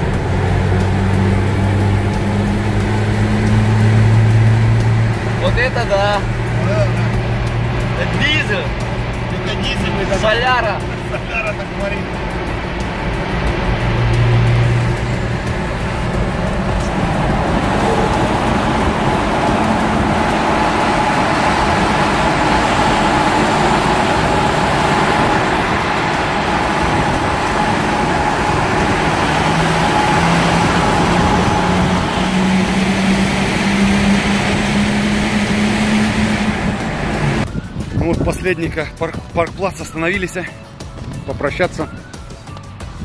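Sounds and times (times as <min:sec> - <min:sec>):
car cabin road noise: 0:00.0 - 0:40.4.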